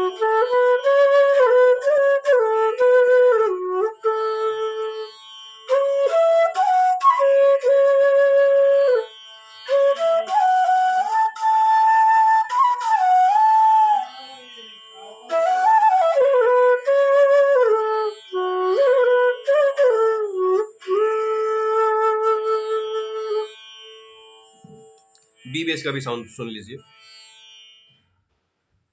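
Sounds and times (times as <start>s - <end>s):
bamboo flute melody: 0.0s - 24.0s
tanpura drone: 0.0s - 27.9s.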